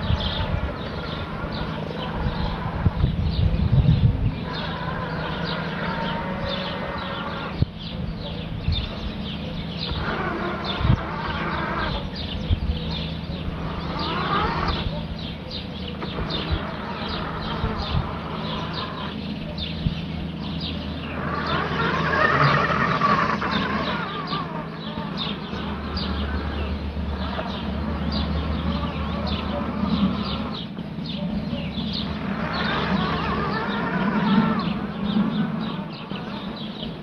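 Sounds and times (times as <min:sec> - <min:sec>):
robotic lawn mower humming: 0:00.0 - 0:37.0.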